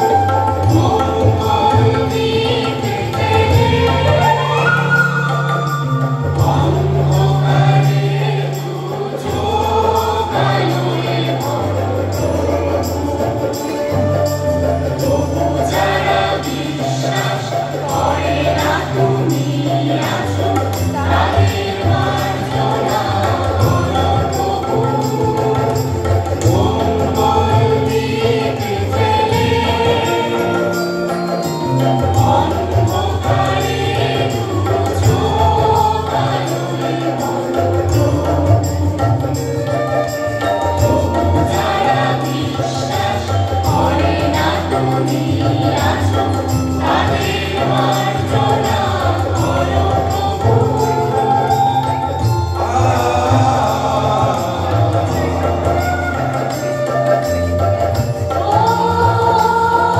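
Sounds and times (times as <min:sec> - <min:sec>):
chorus singing: 0:00.0 - 0:59.9.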